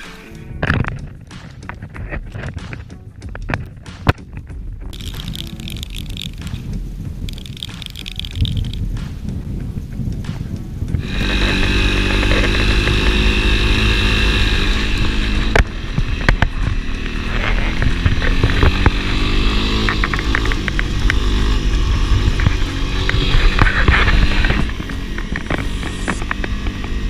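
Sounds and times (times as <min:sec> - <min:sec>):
motorcycle engine running: 0:04.6 - 0:27.0.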